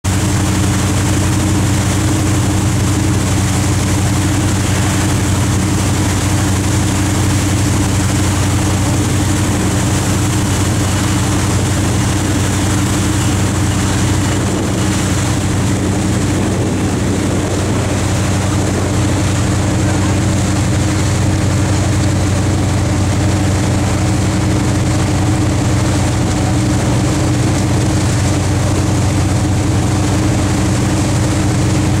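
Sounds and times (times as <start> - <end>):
boat engine droning: 0.0 - 32.0
water rushing past hull: 0.0 - 32.0.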